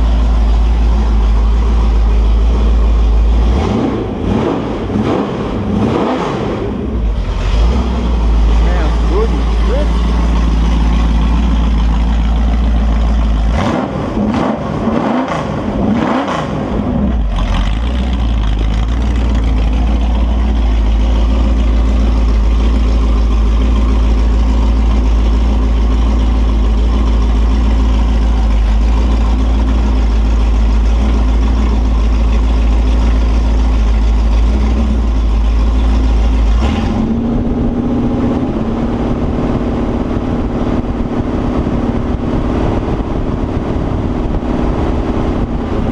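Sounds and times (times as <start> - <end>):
engine revving and idling: 0.0 - 45.9.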